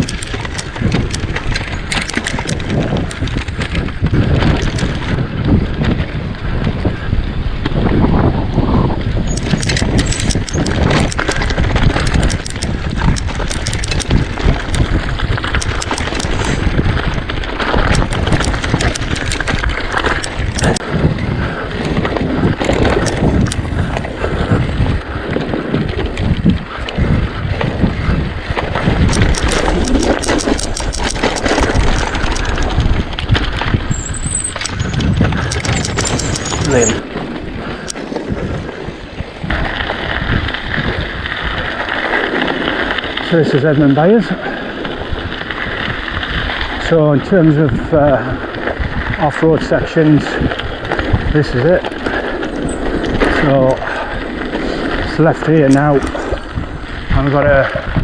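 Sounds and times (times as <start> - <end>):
bike rattling clicks and knocks: 0.0 - 58.0
bike tyres on rough ground: 0.0 - 58.0.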